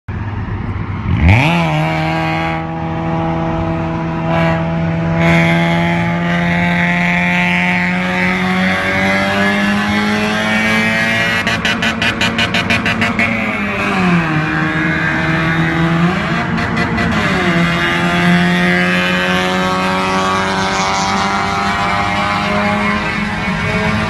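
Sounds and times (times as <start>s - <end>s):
car engine revving in a tunnel: 0.4s - 24.0s.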